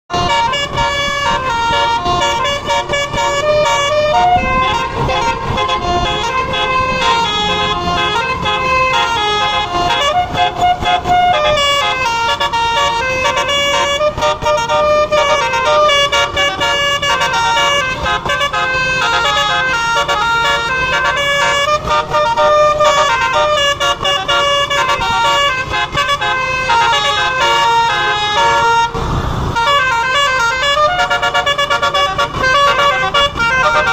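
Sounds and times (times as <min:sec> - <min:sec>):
bus musical horn tune: 0:00.1 - 0:33.9.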